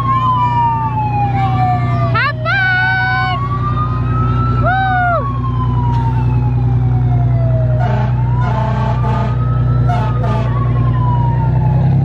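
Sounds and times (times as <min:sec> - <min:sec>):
fire truck siren wailing: 0:00.0 - 0:12.0
truck engine running: 0:00.0 - 0:12.0.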